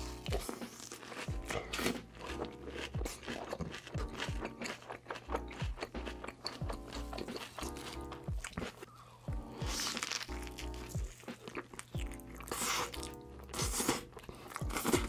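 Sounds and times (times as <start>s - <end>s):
crunchy wet chewing: 0.0s - 15.0s
soft background music: 0.0s - 15.0s.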